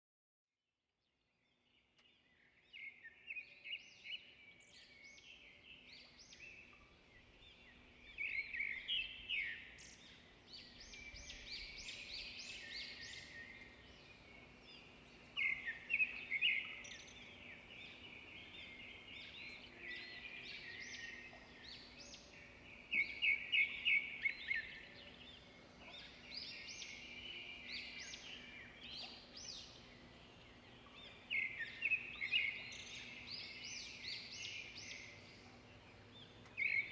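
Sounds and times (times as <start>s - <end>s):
birds chirping and trilling: 1.4s - 36.9s
faint steady hum: 3.8s - 36.9s.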